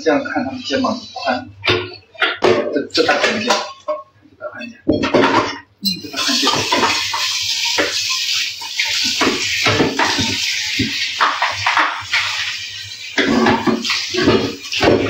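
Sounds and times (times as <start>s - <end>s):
tap water running into sink: 0.3s - 4.0s, 6.0s - 15.0s.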